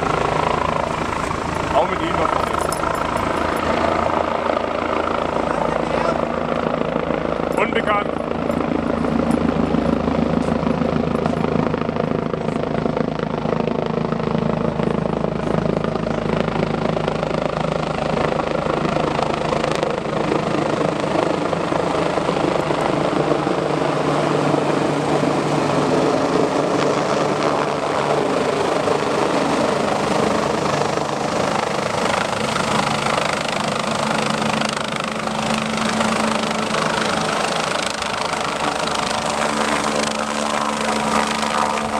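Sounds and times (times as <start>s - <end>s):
helicopter flying low overhead: 0.0s - 41.9s.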